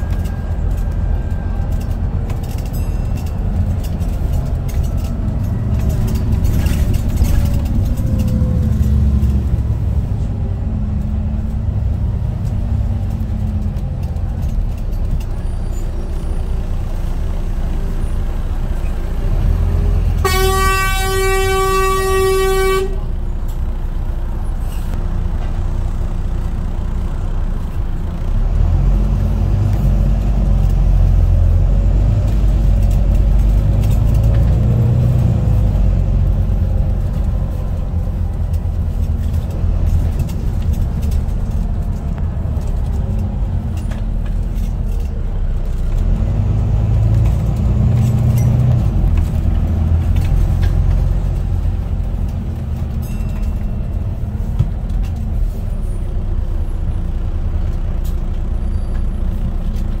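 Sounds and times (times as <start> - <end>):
interior rattles and clicks: 0.0 - 20.7, 29.0 - 60.0
bus engine and road rumble: 0.0 - 60.0.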